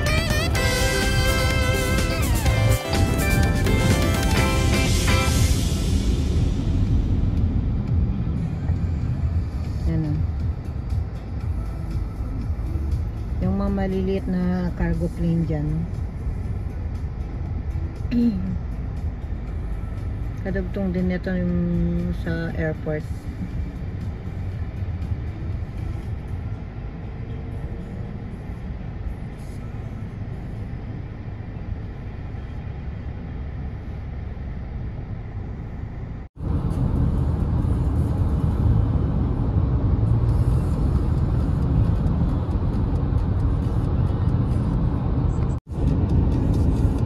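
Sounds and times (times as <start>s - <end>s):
car road and engine noise: 0.0s - 47.0s.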